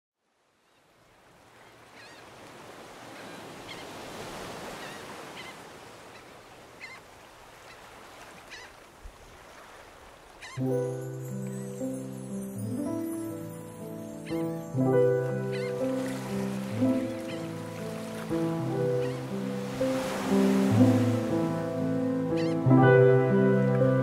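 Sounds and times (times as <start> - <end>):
surf washing in: 1.0 - 24.0.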